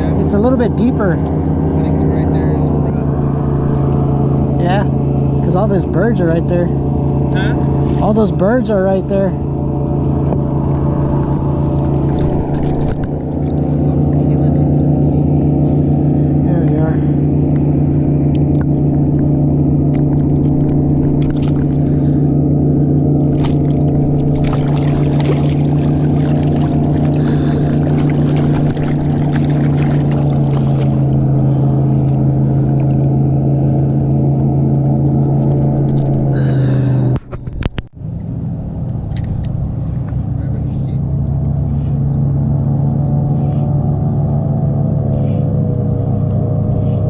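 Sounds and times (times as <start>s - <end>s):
boat motor droning: 0.0s - 47.0s.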